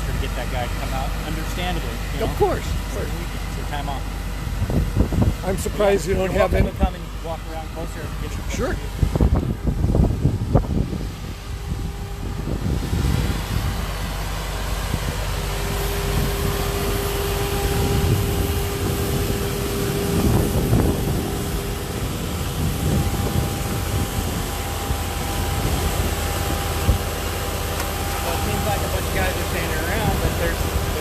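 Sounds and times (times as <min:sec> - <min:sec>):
engine humming: 0:00.0 - 0:31.0
steady whine: 0:00.0 - 0:31.0.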